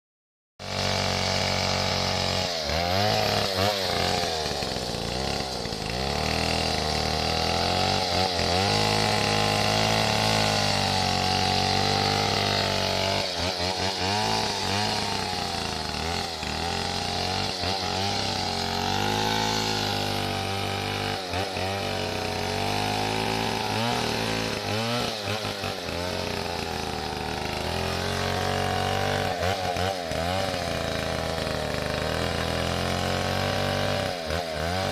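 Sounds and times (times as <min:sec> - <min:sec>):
chainsaw engine revving: 0:00.6 - 0:34.9.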